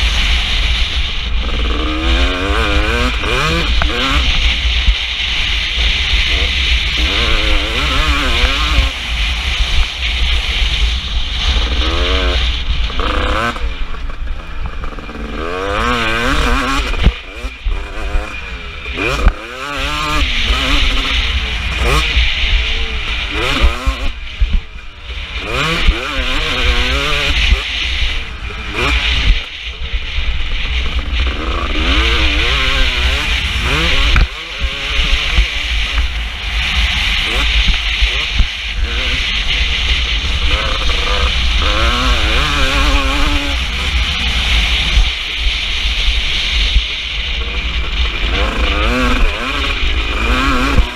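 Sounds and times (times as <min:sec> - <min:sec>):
constant low rumble: 0:00.0 - 0:50.9
motocross engine revving: 0:00.0 - 0:50.9.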